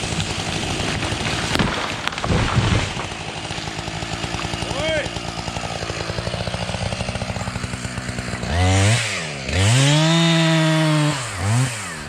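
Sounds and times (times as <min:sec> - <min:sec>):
chainsaw idling and revving: 0:00.0 - 0:12.0.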